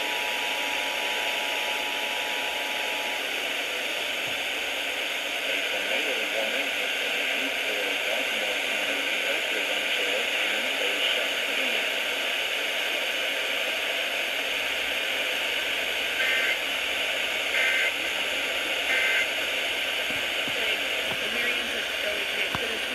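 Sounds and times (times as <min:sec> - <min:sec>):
radio static hiss: 0:00.0 - 0:22.9.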